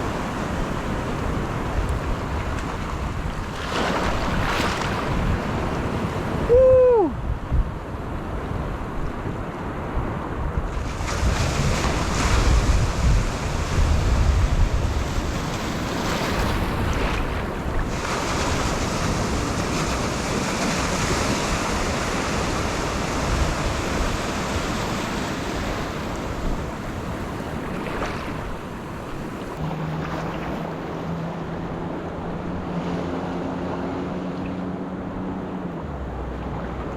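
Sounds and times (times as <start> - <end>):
ocean surf washing onto beach: 0.0 - 36.9
wind buffeting microphone: 0.0 - 36.9.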